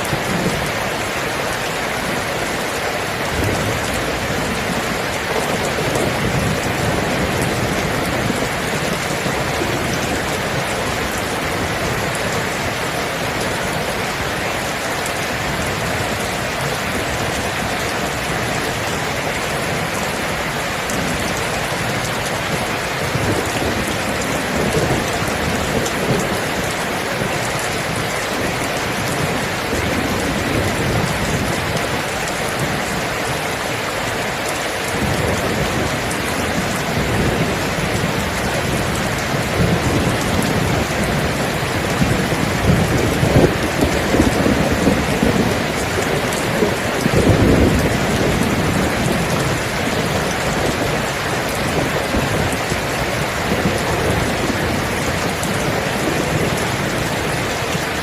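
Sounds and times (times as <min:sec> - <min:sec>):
rain falling: 0:00.0 - 0:58.0
rolling thunder: 0:03.2 - 0:33.1, 0:34.9 - 0:52.8.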